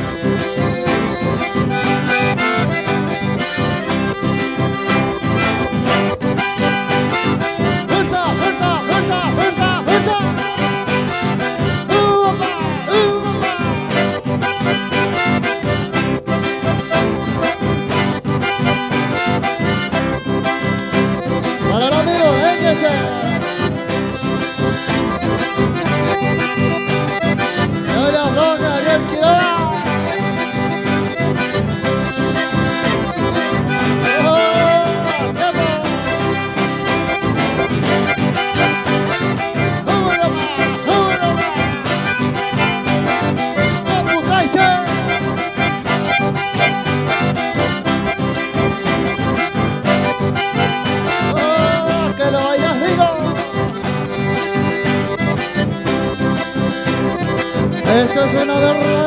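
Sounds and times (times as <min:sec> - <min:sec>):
accordion-led band dance music: 0:00.0 - 0:59.0.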